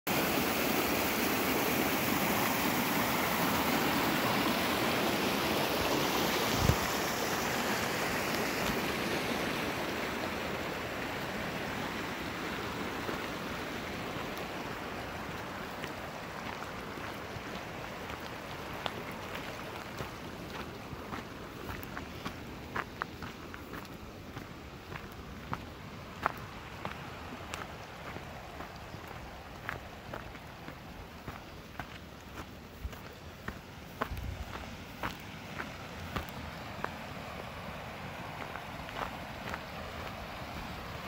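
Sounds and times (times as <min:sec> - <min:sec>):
water rushing over rock: 0:00.1 - 0:41.0.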